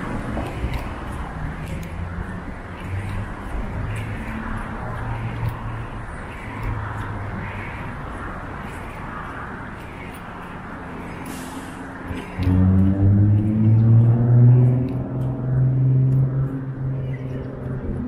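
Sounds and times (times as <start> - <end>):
steady traffic: 0.0 - 18.0.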